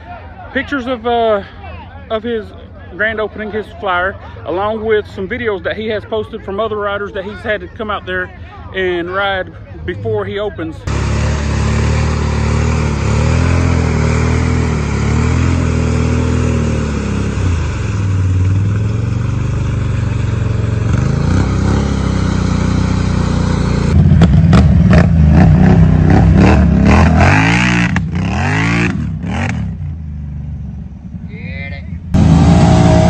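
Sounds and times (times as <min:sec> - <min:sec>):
atv engines revving: 0:00.0 - 0:33.0.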